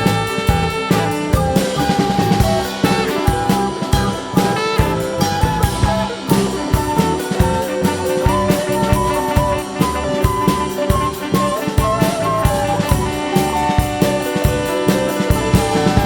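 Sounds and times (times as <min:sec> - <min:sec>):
band music with drums: 0:00.0 - 0:16.0.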